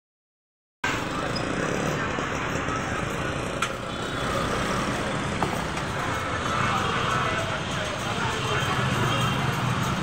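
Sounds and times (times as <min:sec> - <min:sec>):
motorcycle and scooter engines: 0:00.8 - 0:10.0
people talking: 0:00.9 - 0:10.0.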